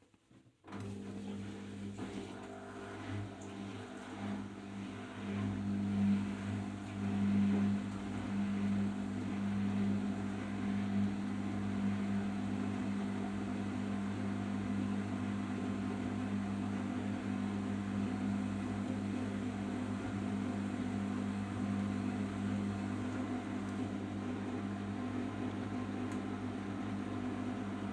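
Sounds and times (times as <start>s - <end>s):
washing machine humming: 0.7s - 27.9s.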